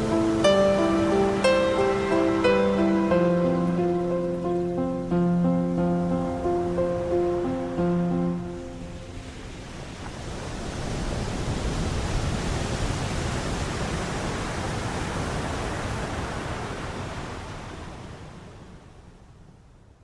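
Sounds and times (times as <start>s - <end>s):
even rushing noise: 0.0s - 16.6s.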